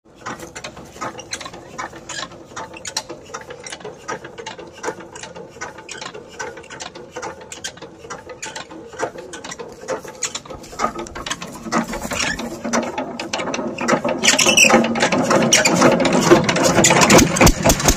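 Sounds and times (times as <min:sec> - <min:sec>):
engine hand crank clattering: 0:00.1 - 0:17.9
metallic clicking and ratcheting: 0:00.2 - 0:17.9.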